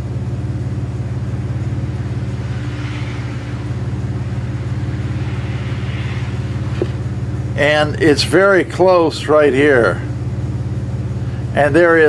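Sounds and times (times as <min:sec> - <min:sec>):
pulsing machine hum: 0:00.0 - 0:12.0.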